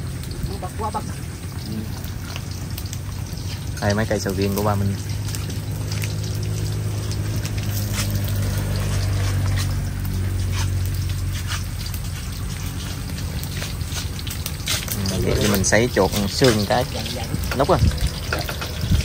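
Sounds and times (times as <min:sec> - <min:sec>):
water pouring and splashing: 0:00.0 - 0:19.0.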